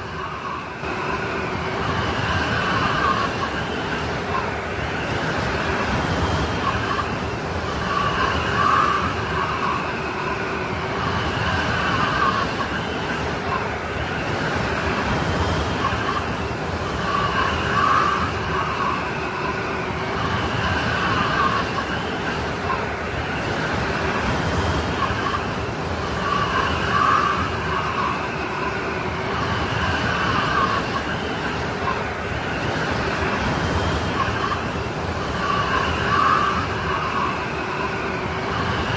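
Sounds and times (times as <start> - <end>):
wind howling and whistling: 0.0 - 38.9.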